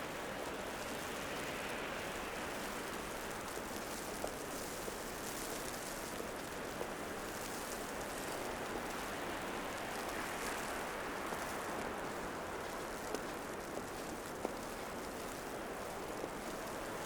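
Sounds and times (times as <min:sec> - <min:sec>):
city ambience in snow: 0:00.0 - 0:17.0.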